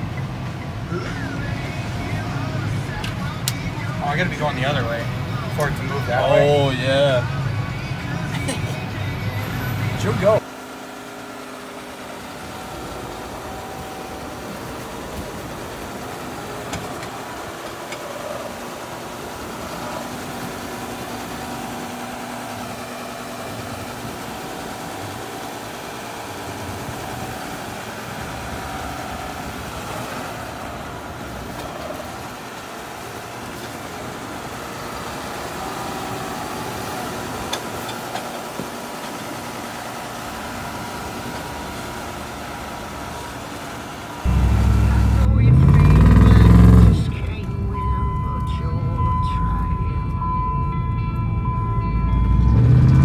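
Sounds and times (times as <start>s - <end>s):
diesel tractor engine idling: 0.0s - 53.0s.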